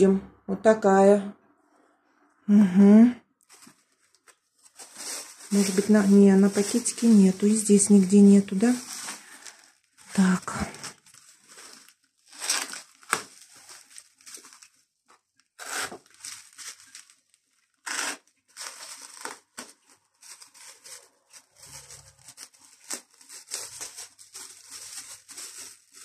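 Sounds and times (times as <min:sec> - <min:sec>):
plastic wrapping crinkling and tearing: 0:03.4 - 0:26.0.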